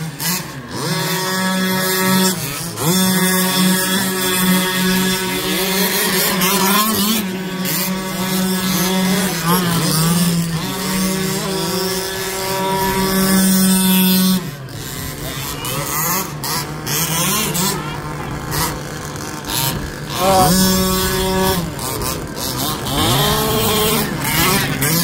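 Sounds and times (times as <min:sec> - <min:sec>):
engine at steady high revs: 0:00.0 - 0:25.0
engine revving up and down: 0:00.0 - 0:25.0.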